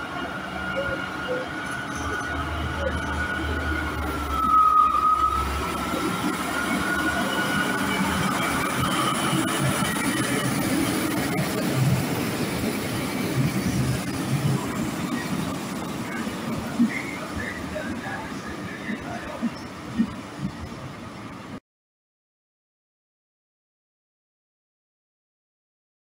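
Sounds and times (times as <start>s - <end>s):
wheels squealing on rails: 0.0s - 21.3s
diesel locomotive engine rumble: 0.0s - 21.6s.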